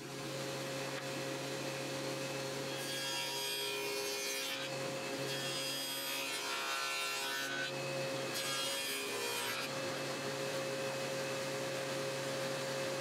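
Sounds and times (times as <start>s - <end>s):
saw cutting wood: 0.0s - 12.9s
table saw whining: 0.0s - 13.0s.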